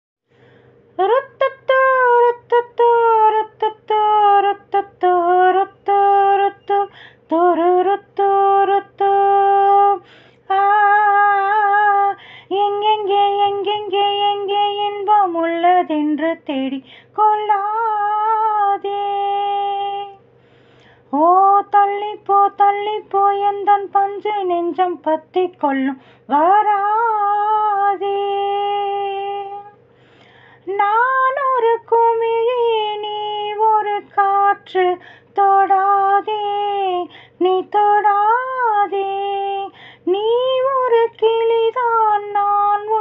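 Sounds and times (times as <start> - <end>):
woman singing a melody: 1.0 - 20.3, 21.1 - 43.0.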